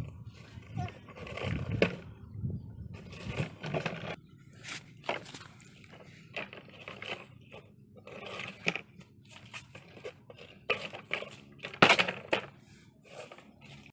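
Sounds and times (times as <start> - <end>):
objects scraping and clicking: 0.0 - 2.3, 2.9 - 13.9.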